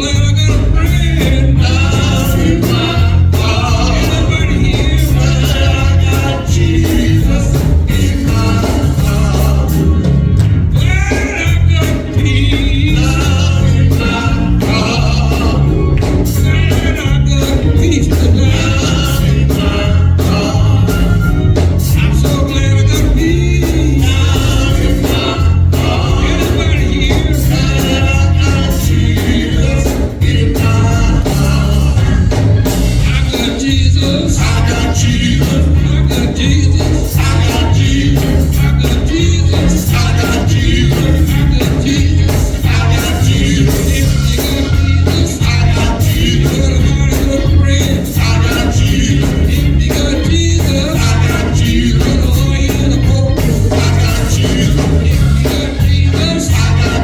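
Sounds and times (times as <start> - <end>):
band with strong bass: 0.0 - 57.0
gospel singing: 0.0 - 57.0.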